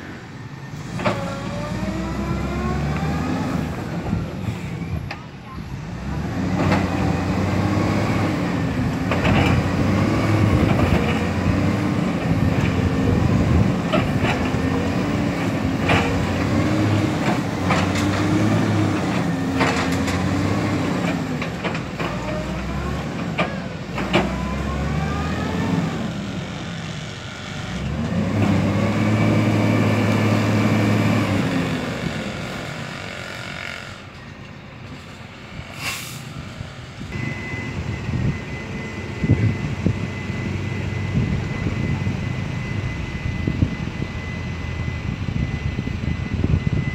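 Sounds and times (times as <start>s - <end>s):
diesel truck engines revving: 0.0s - 46.9s.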